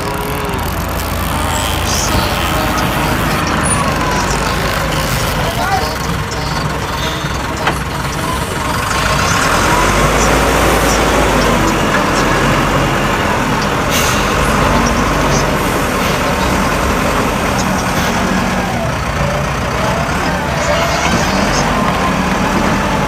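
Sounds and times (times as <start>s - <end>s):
heavy truck engine rumbling: 0.0s - 23.0s
road traffic noise: 0.0s - 23.0s.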